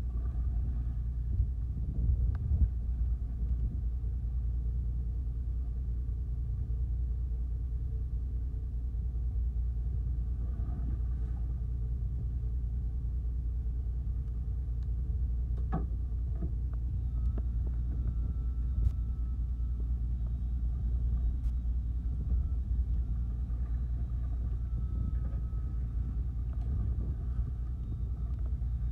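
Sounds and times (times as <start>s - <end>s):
boat engine idling: 0.0s - 28.9s.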